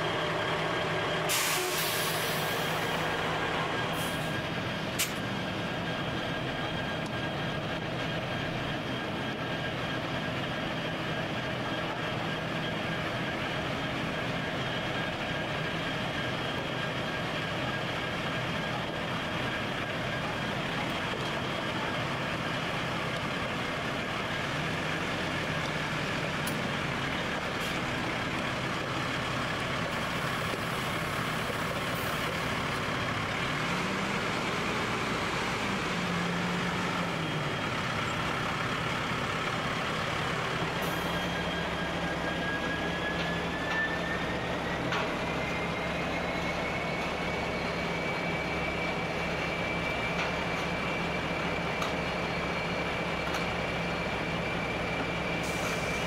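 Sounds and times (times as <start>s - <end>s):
diesel engines idling: 0.0s - 56.0s.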